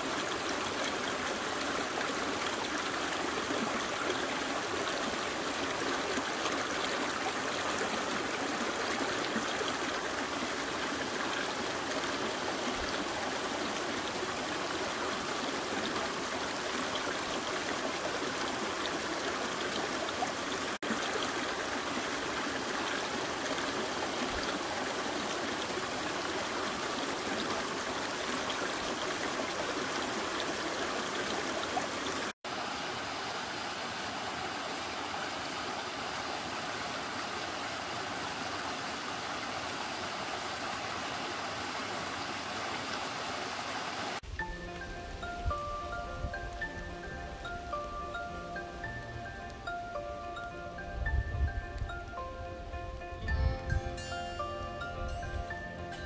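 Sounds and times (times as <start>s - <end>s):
stream rushing over rocks: 0.0s - 52.8s.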